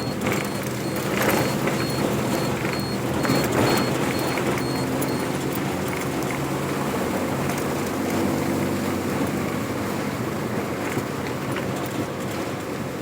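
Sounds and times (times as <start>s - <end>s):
vehicle engine running: 0.0s - 12.5s
road noise: 0.0s - 13.0s.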